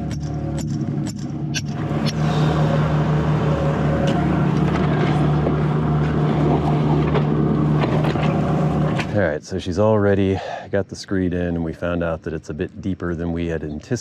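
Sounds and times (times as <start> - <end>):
engine running low hum: 0.0 - 14.0.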